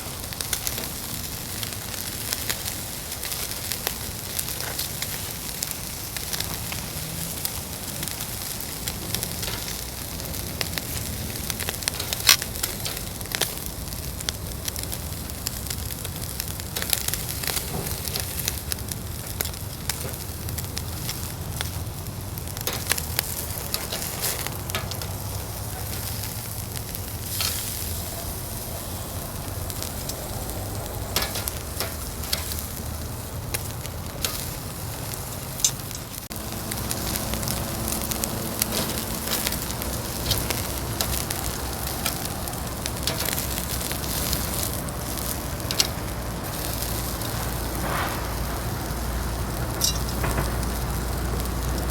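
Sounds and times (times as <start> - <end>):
fire popping and crackling: 0.0 - 51.9
food sizzling on a grill: 0.0 - 51.9.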